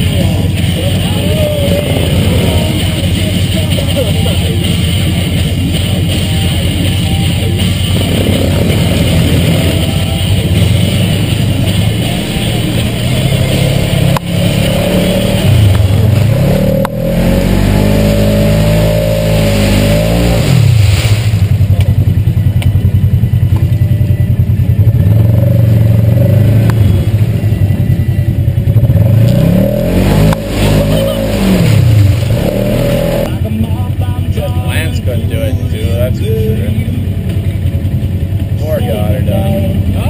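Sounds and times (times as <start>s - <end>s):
atv engine revving: 0.0s - 40.0s.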